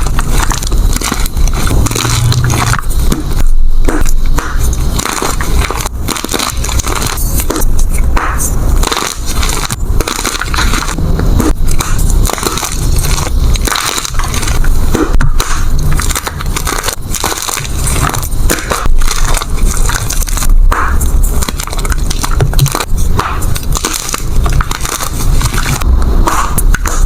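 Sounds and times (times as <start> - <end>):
chalk crunching and crumbling: 0.0 - 27.0.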